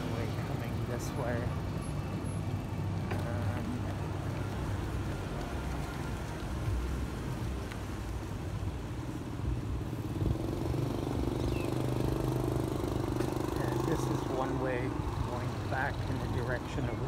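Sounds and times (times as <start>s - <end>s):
motorbike and car engines passing: 0.0s - 17.0s
steady low traffic rumble: 0.0s - 17.0s.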